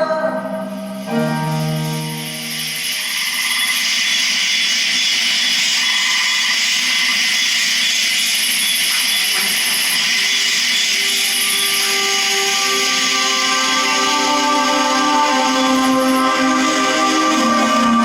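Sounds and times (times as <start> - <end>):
mechanical whirring: 0.8 - 18.0.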